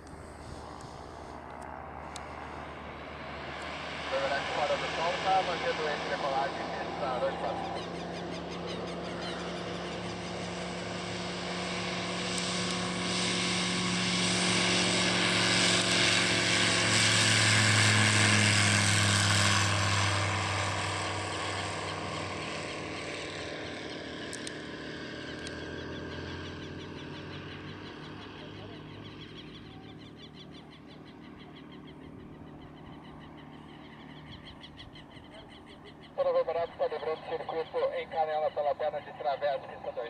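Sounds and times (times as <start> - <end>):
light aircraft engine and propeller: 0.0 - 40.0.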